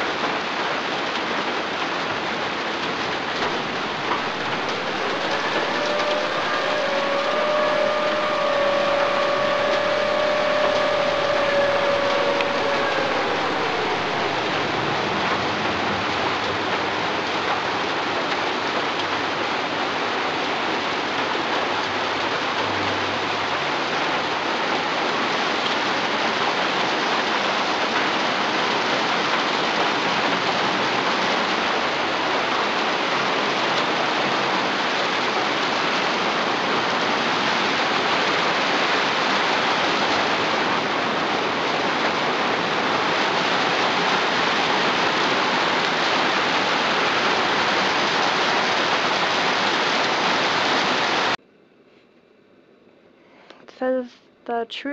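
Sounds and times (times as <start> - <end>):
rain on a tin roof: 0.0 - 51.4.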